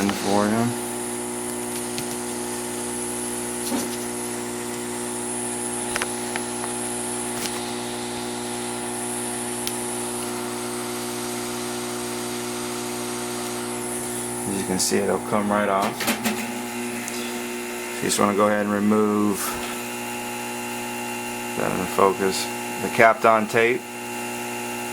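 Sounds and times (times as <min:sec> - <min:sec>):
heat gun humming and whining: 0:00.0 - 0:24.9.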